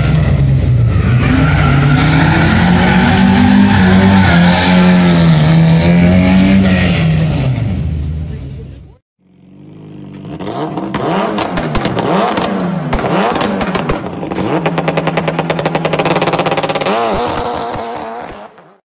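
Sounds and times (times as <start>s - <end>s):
engine revving: 0.0s - 8.6s, 9.2s - 18.8s.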